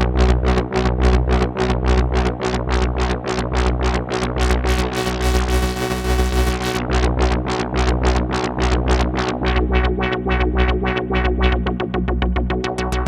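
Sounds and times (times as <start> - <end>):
plucky synthesizer notes: 0.0 - 13.0
pulsing synth bass: 0.0 - 13.0.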